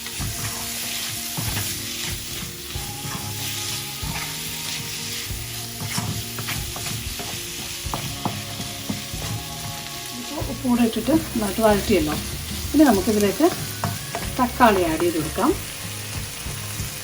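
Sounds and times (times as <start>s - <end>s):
meat sizzling in a pan: 0.0s - 17.0s
spoon scraping and knocking pan: 0.0s - 17.0s.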